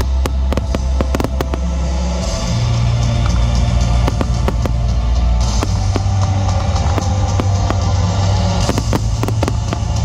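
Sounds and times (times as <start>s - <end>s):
fireworks bangs and crackles: 0.0s - 10.0s
loud music with drums and bass: 0.0s - 10.0s.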